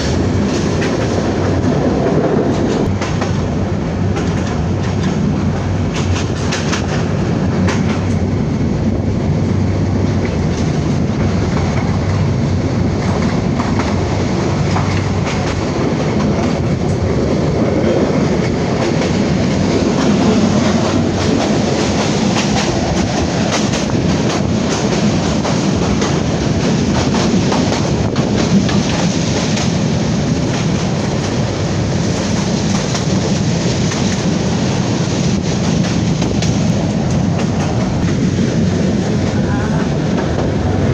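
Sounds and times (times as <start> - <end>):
train rumbling along track: 0.0 - 40.9.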